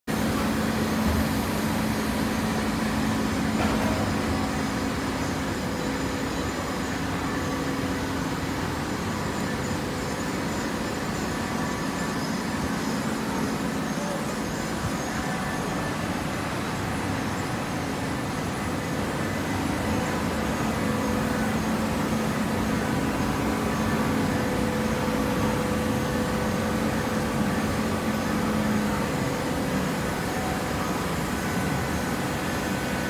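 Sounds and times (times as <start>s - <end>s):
hydraulic baler running: 0.1s - 33.0s.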